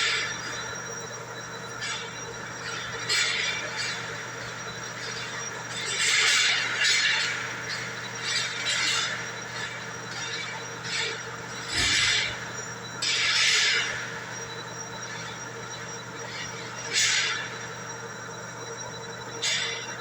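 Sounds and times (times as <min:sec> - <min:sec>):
cutting tool scraping and squealing: 0:00.0 - 0:18.2.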